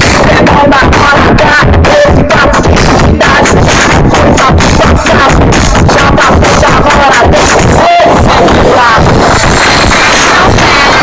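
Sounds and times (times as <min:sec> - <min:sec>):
electronic dance music heavy bass: 0:00.0 - 0:11.0.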